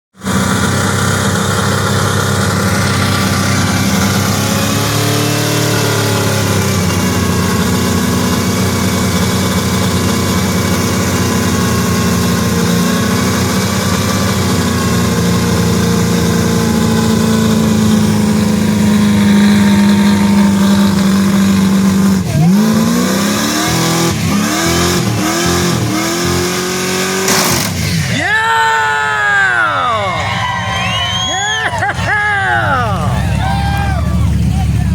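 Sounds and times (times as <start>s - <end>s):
truck engine revving: 0.1s - 34.9s.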